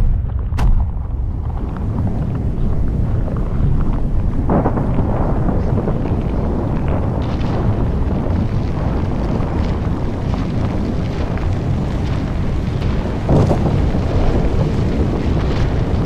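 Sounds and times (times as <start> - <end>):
deep rumble of building collapsing: 0.0 - 16.0
wind buffeting microphone: 0.0 - 16.0.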